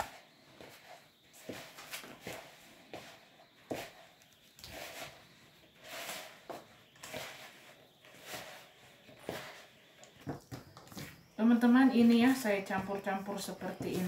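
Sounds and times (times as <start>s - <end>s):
hands kneading dough in a bowl: 0.0s - 14.0s.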